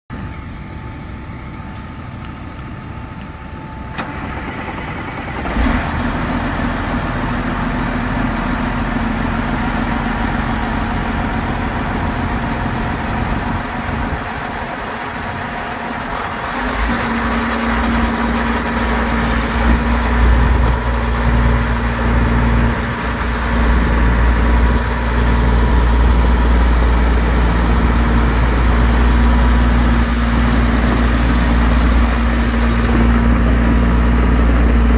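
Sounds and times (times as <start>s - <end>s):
vehicle engine running: 0.1s - 34.9s.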